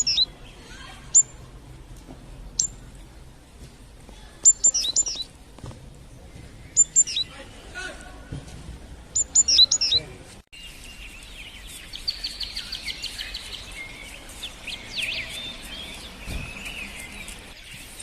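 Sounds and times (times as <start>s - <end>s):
small birds singing and chirping: 0.0s - 3.5s, 4.1s - 8.1s, 9.1s - 18.0s
outdoor background noise: 0.0s - 18.0s.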